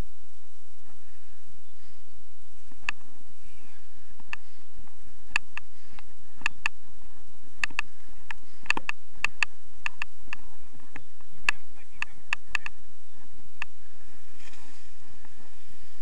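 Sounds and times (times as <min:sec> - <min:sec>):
steady background noise: 0:00.0 - 0:16.0
footsteps on frozen snow: 0:00.9 - 0:16.0.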